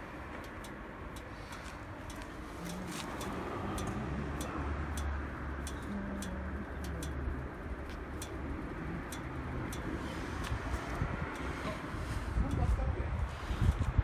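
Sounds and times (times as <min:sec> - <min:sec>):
light irregular ticking: 0:00.0 - 0:14.0
petrol engine idling: 0:00.0 - 0:14.0.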